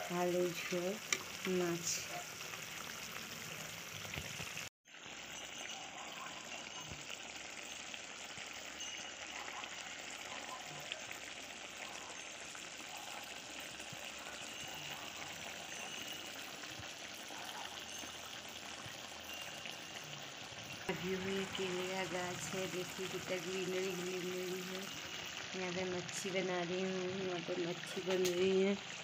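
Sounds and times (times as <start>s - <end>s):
curry sizzling in a pan: 0.0s - 29.0s.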